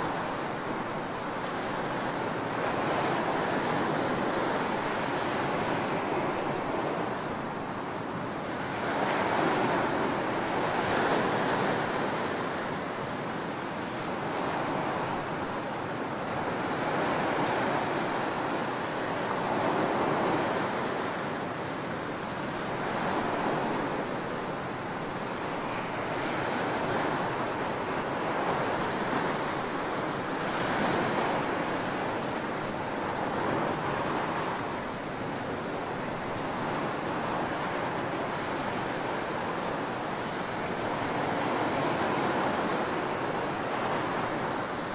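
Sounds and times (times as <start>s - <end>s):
ocean surf on a beach: 0.0s - 44.9s.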